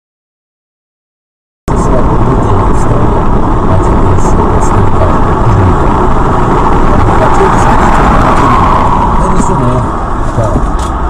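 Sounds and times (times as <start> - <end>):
car road and engine noise: 1.7 - 11.0.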